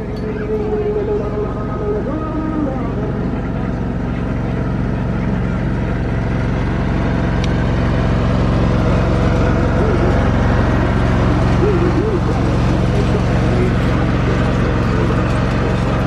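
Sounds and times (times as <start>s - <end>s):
radial aircraft engine running: 0.0s - 16.0s.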